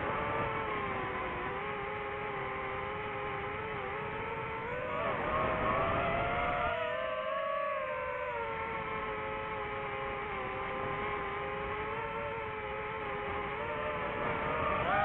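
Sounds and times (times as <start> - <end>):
drone propellers whining: 0.1 - 15.0.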